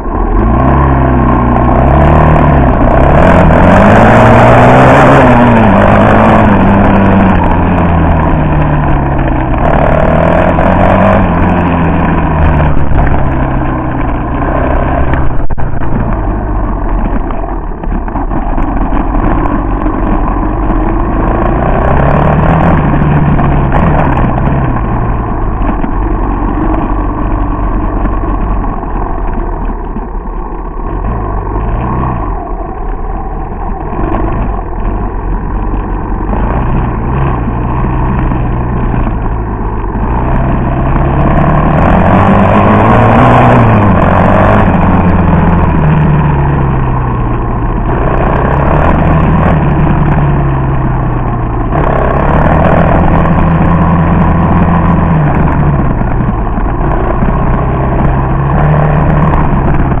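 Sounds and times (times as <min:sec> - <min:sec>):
atv engine revving: 0:00.0 - 1:00.0.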